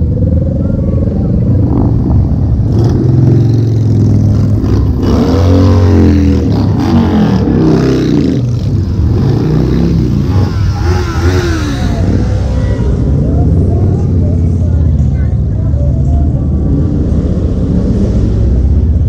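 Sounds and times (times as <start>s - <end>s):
motorcycles riding past: 0.0s - 19.0s.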